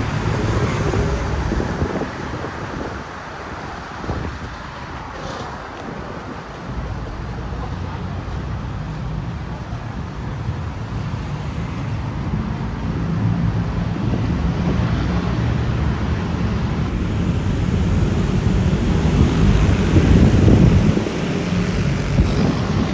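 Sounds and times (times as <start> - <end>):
road traffic rumble: 0.0 - 22.9
wind on microphone: 0.0 - 22.9.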